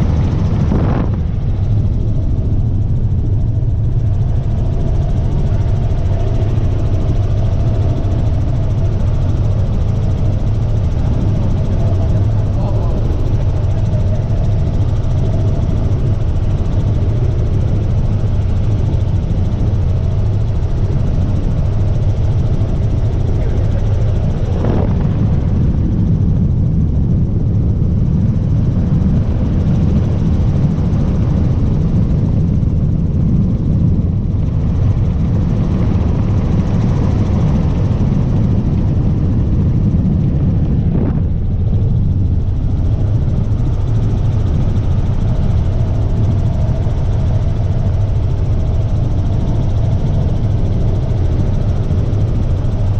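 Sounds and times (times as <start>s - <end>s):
helicopter engine and rotor drone: 0.0s - 52.9s.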